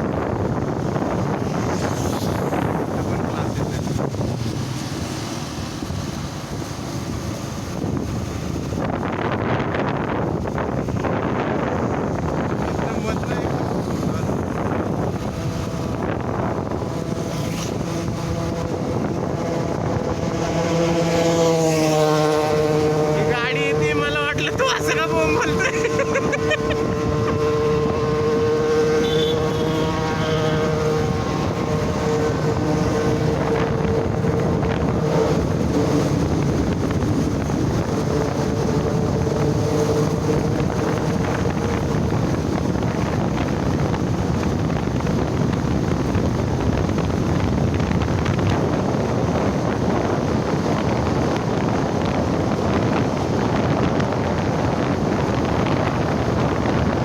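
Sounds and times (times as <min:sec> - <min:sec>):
motorcycle engine: 0:00.0 - 0:57.0
wind rush on microphone: 0:00.0 - 0:57.0.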